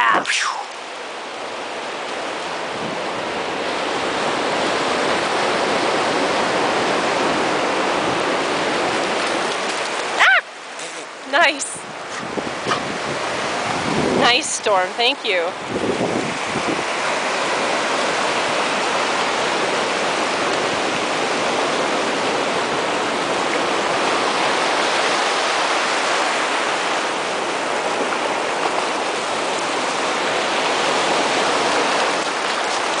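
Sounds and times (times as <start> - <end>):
ocean surf washing: 0.0 - 33.0.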